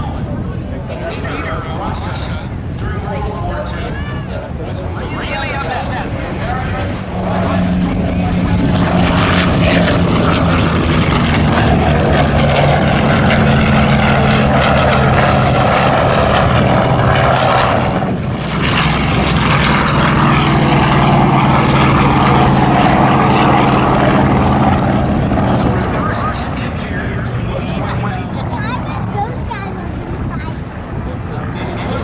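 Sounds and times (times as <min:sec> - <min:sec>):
propeller plane engine drone: 0:00.0 - 0:32.0.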